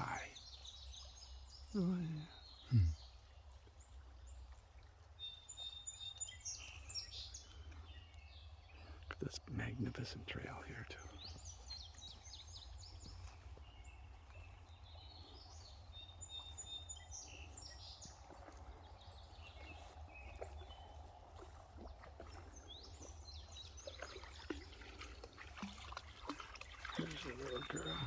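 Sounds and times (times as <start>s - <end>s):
faint songbirds chirping: 0.0s - 28.0s.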